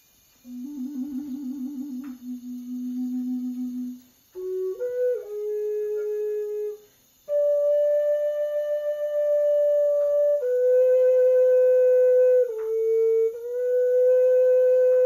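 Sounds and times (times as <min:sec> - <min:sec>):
breathy flute melody: 0:00.4 - 0:15.0.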